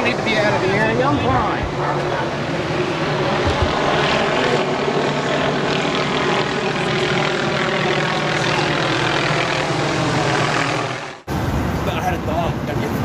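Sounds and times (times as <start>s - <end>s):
aircraft engine running: 0.0s - 12.7s.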